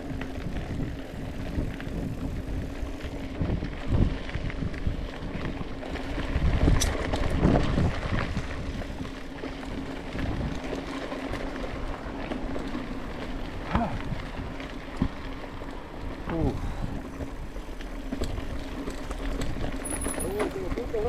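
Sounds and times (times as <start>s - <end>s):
wind buffeting microphone: 0.0s - 10.8s, 13.4s - 21.0s
bike tyre rumble and rattle: 0.0s - 21.0s.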